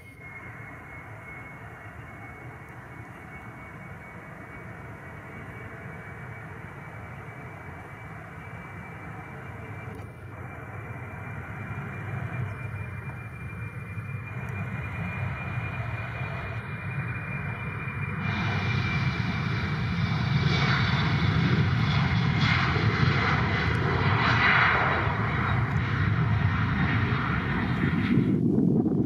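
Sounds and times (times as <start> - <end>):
jet engine roar at takeoff: 0.0 - 29.0.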